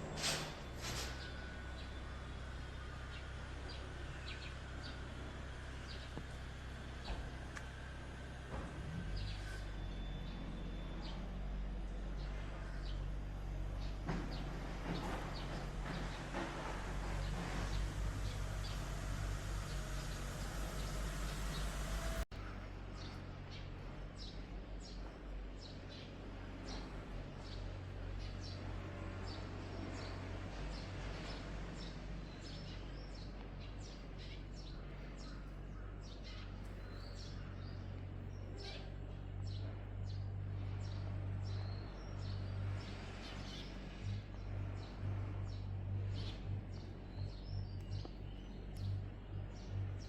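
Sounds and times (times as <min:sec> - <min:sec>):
small birds chirping: 0:00.0 - 0:50.0
steady low hum: 0:00.0 - 0:50.0.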